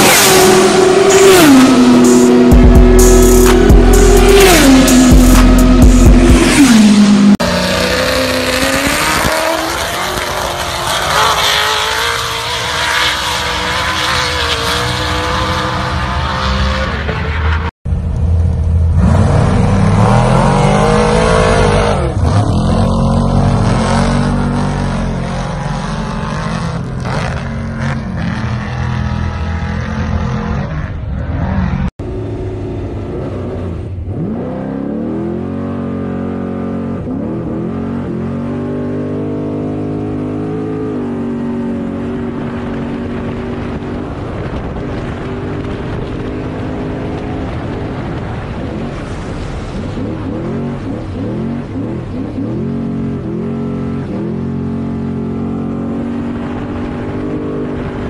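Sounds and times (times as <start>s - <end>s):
truck engine revving: 0.0s - 17.7s, 18.4s - 58.0s
engine upshifting while accelerating: 0.0s - 58.0s.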